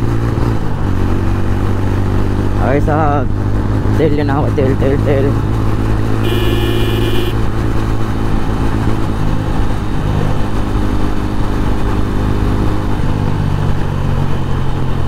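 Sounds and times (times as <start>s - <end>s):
motorcycle engine running: 0.0s - 13.1s
wind and road noise: 0.0s - 15.0s.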